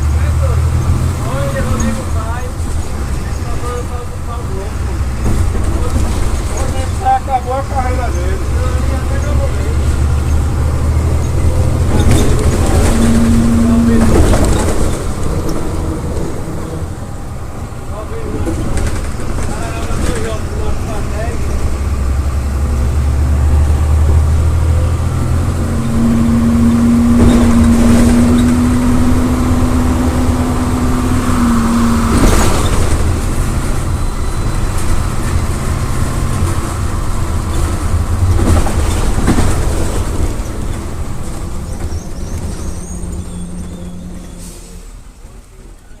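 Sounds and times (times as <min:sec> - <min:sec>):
diesel bus engine rumble: 0:00.0 - 0:46.0.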